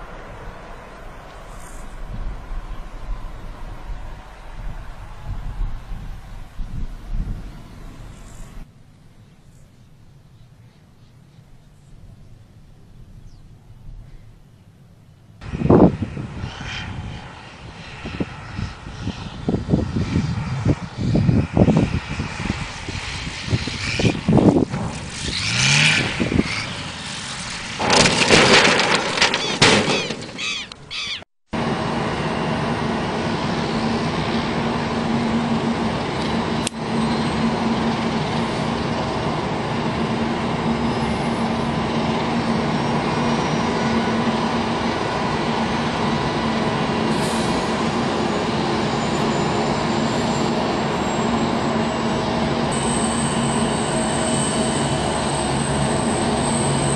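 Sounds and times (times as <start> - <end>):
light plane engine passing: 0.0 - 28.8, 29.6 - 56.9
constant low hum: 0.0 - 56.9.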